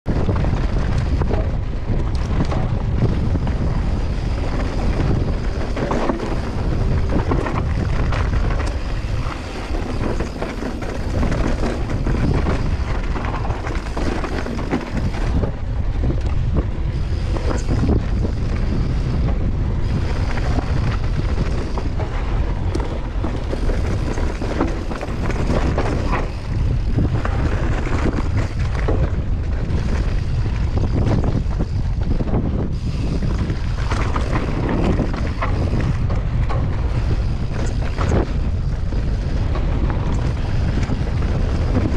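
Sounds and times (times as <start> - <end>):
wind buffeting microphone: 0.0 - 41.9
bike rattling over rough ground: 0.1 - 41.9.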